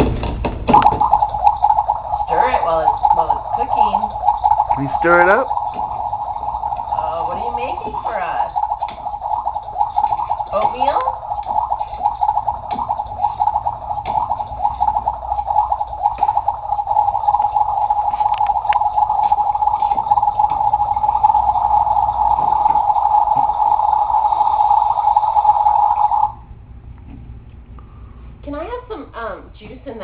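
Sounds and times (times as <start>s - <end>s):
toy electronic cooking sound: 0.7s - 26.4s.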